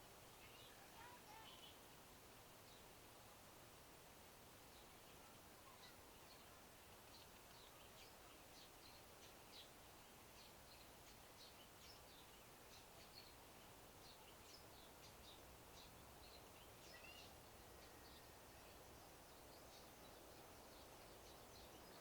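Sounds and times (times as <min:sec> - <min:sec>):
distant small birds chirping: 0:00.0 - 0:22.0
low steady background hiss: 0:00.0 - 0:22.0.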